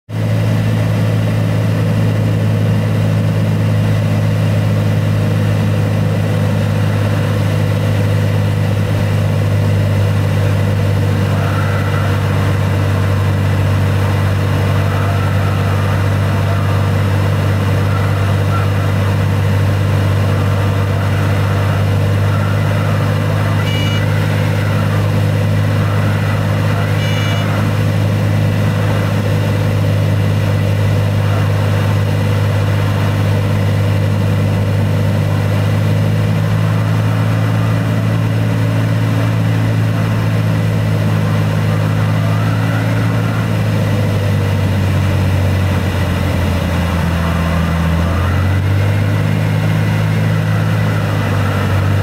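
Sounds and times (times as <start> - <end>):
propeller plane engine droning: 0.1 - 52.0.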